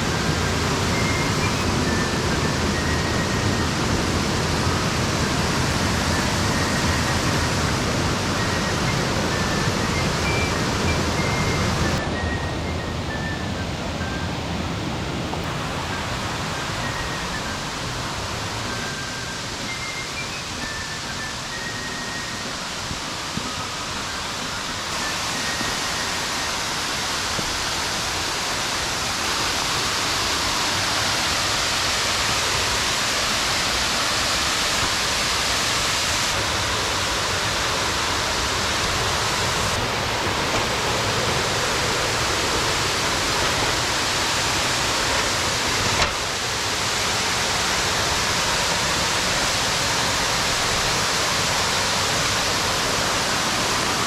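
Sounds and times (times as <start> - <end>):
rush of falling water: 0.0 - 54.0.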